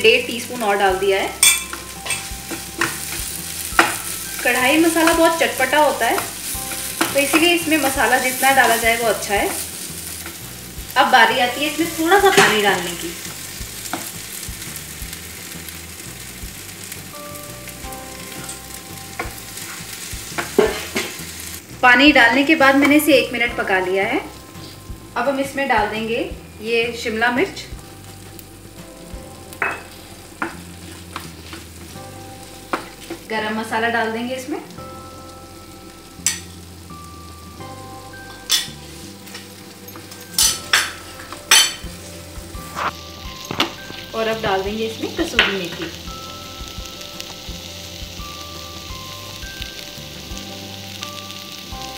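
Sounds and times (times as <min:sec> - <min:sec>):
gravy sizzling in a pan: 0:00.0 - 0:51.9.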